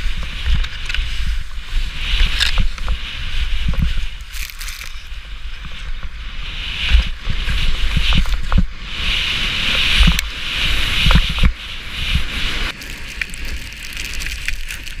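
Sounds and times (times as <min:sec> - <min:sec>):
skis scraping over snow: 0:00.0 - 0:15.0
wind rumble on microphone: 0:00.0 - 0:15.0.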